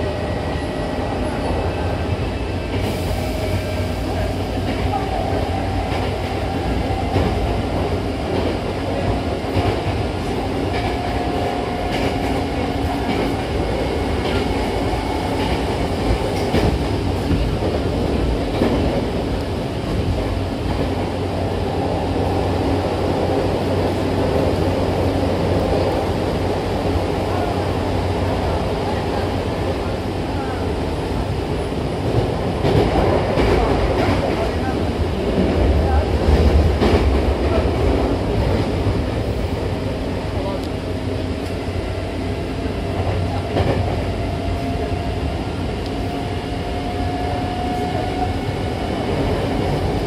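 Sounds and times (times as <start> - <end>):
rumble of wheels on rail: 0.0 - 50.0.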